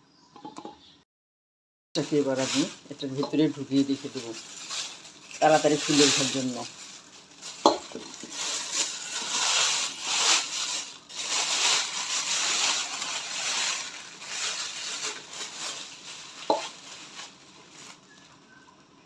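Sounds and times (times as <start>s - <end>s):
crinkling and rustling covering: 2.0s - 19.0s.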